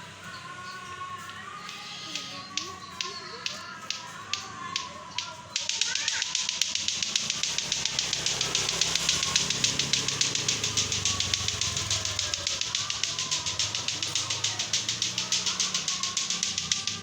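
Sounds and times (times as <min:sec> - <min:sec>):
rapid hissy clicking: 0:01.2 - 0:17.0.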